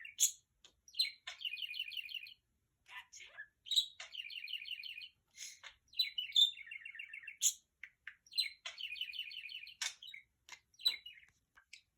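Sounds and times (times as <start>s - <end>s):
sharp bird chirps and clicks: 0.0s - 2.4s, 3.5s - 11.9s.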